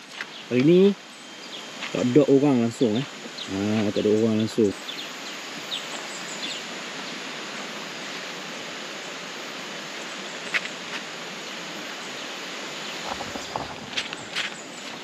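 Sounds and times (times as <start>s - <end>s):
rushing outdoor ambience: 0.0s - 15.0s.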